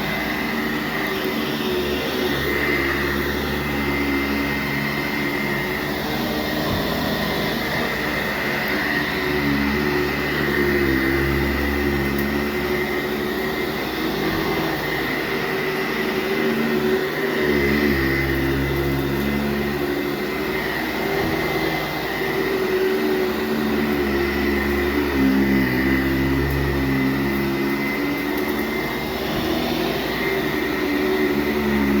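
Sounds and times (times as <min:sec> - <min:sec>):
upright vacuum on carpet: 0:00.0 - 0:32.0.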